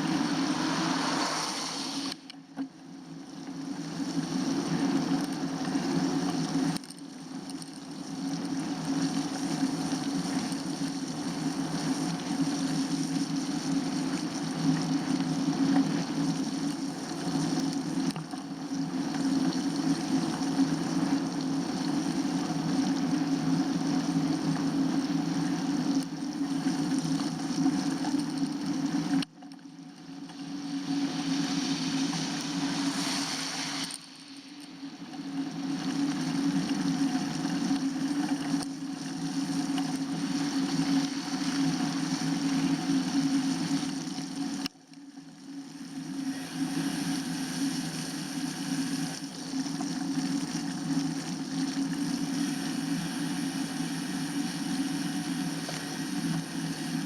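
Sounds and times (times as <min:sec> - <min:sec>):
bicycle riding wind and tyres: 0:00.0 - 0:57.0.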